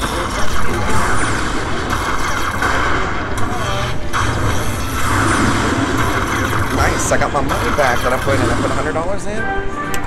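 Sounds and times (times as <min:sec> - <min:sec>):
slot machine noise: 0:00.0 - 0:10.0.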